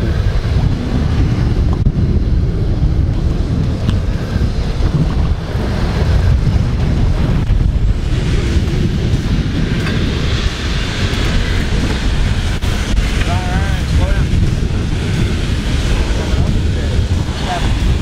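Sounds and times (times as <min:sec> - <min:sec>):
rough sea rushing: 0:00.0 - 0:18.0
wind buffeting microphone: 0:00.0 - 0:18.0.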